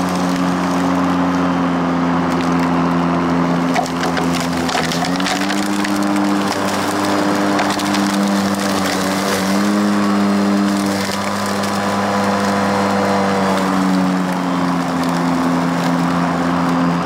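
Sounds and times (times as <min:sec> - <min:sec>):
cut grass rustling: 0:00.0 - 0:17.0
lawn mower motor humming: 0:00.0 - 0:17.0.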